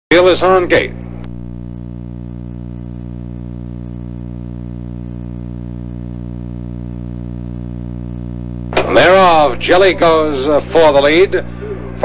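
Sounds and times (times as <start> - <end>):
steady electrical hum: 0.1 - 12.0.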